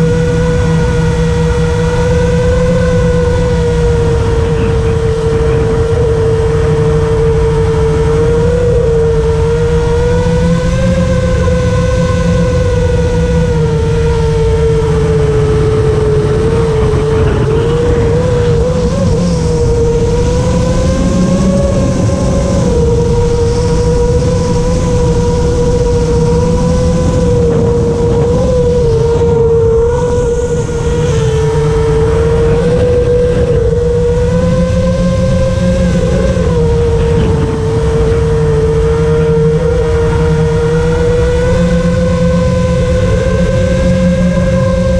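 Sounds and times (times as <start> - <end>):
drone motors whining: 0.0 - 44.9
wind rumble on microphone: 0.0 - 44.9.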